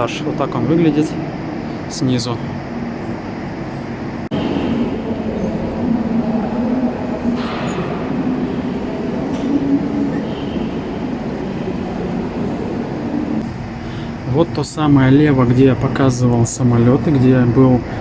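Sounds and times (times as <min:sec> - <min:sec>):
escalator rumble and hum: 0:00.0 - 0:18.0.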